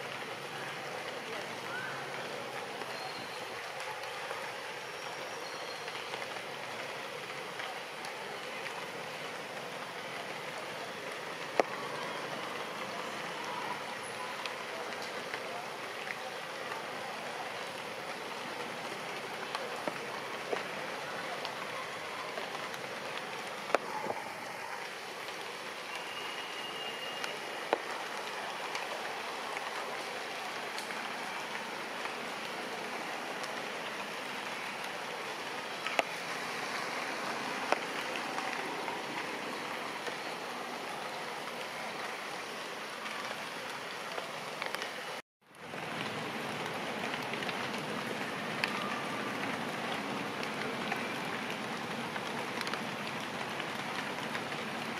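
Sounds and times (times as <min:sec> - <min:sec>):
rain on leaves: 0:00.0 - 0:54.9.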